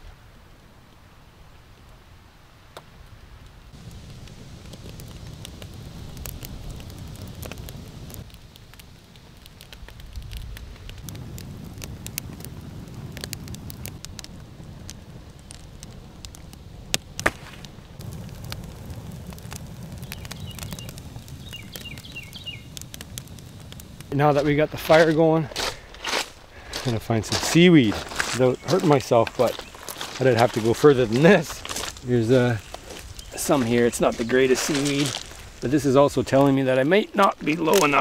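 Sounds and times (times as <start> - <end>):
wood fire crackling: 0.0 - 38.0
fire pops and snaps: 2.7 - 38.0.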